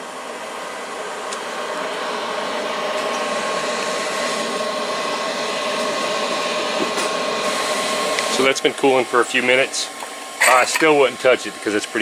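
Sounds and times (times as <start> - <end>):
blow dryer running: 0.0 - 12.0.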